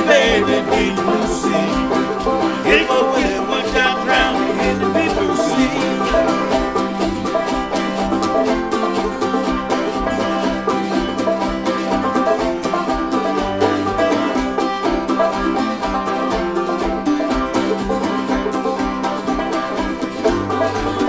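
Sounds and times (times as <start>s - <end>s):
instrumental song with picked notes: 0.0s - 21.0s.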